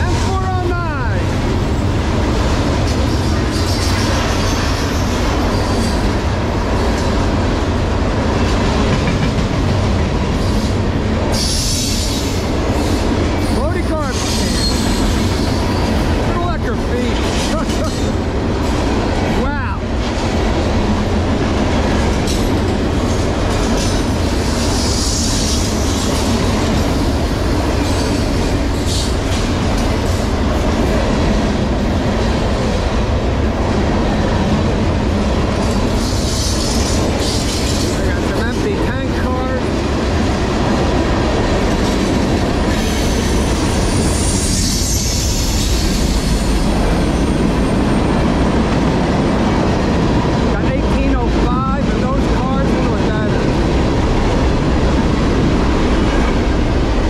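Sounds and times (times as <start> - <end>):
train wheels rumbling on rails: 0.0 - 57.0
wheels clacking over rail joints: 1.3 - 57.0.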